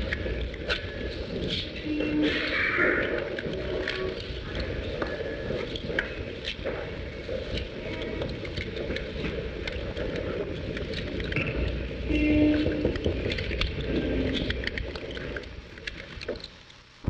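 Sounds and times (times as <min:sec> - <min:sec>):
crackles and clicks: 0:00.0 - 0:17.0.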